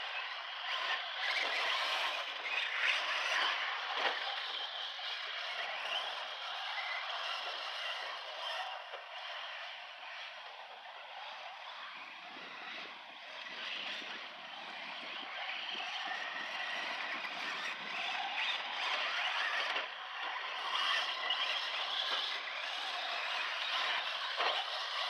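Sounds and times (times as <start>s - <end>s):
toy trucks driving on dirt: 0.0s - 25.0s.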